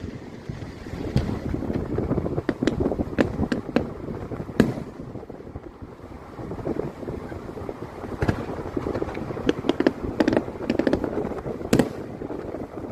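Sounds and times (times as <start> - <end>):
car rumble and wind: 0.0 - 12.9
fireworks bangs and crackles: 0.0 - 12.9.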